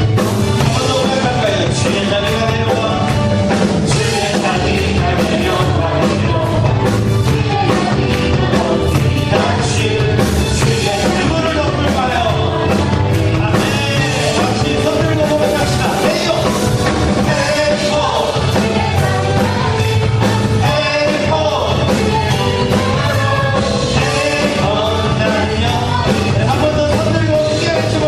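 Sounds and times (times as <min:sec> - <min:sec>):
band playing worship song: 0:00.0 - 0:28.0.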